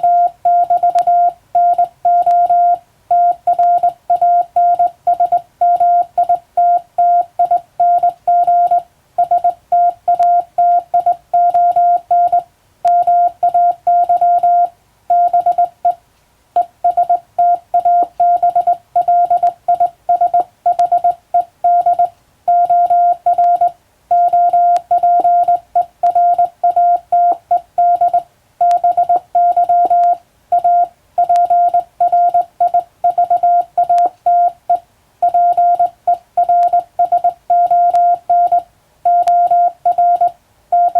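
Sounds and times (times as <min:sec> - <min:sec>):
morse code beeps: 0:00.0 - 0:16.0, 0:16.6 - 0:40.9.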